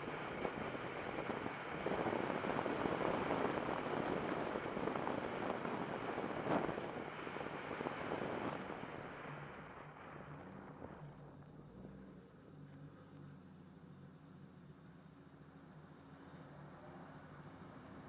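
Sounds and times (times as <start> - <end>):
faint low engine hum: 0.0 - 18.0.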